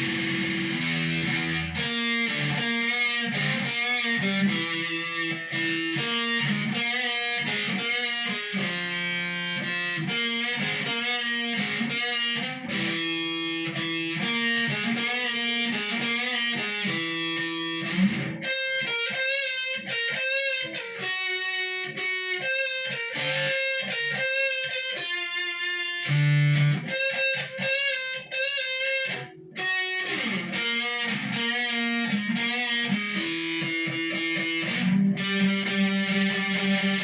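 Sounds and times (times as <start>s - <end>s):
electric guitar melody with vibrato: 0.0s - 37.0s.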